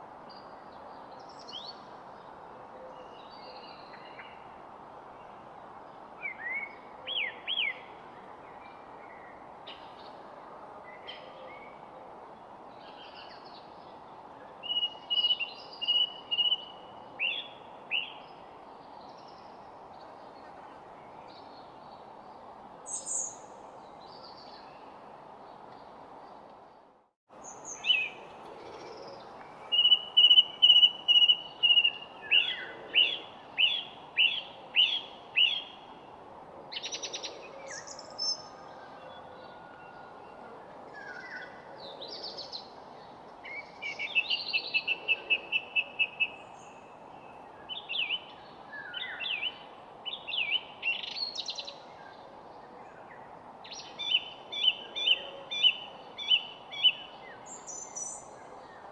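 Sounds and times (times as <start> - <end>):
outdoor background hiss: 0.0 - 58.9
songbirds chirping and trilling: 5.2 - 58.9.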